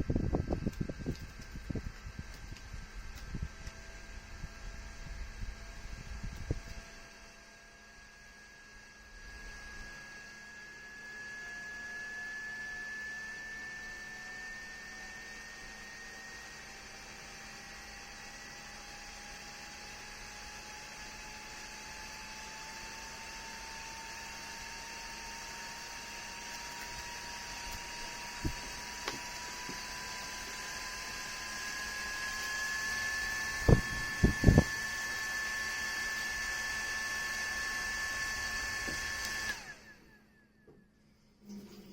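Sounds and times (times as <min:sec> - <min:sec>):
small fan motor whine: 0:00.0 - 0:41.9.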